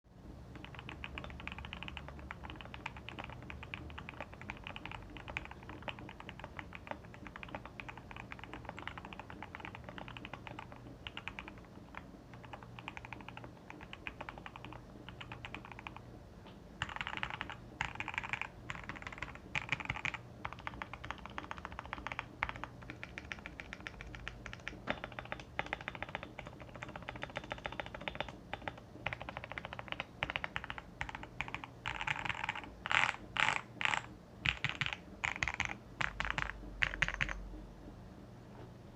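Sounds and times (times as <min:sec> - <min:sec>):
mechanical keyboard typing clatter: 0:00.5 - 0:16.0, 0:16.8 - 0:37.4.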